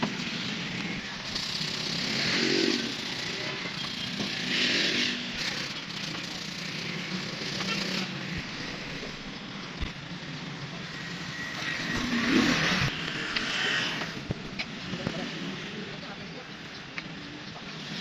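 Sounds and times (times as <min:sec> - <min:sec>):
workshop background noise: 0:00.0 - 0:18.0.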